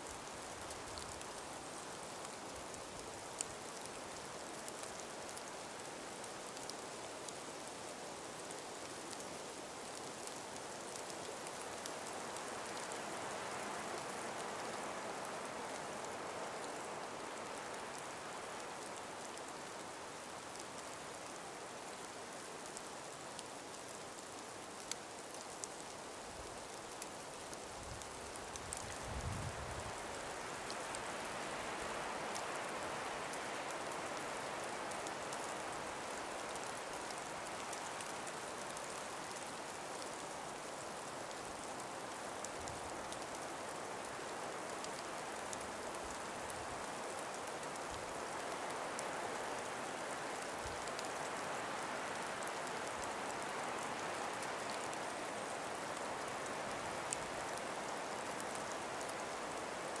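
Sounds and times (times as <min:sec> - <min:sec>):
breeze through trees: 0:00.0 - 1:00.0
faint scattered ticks: 0:00.0 - 1:00.0.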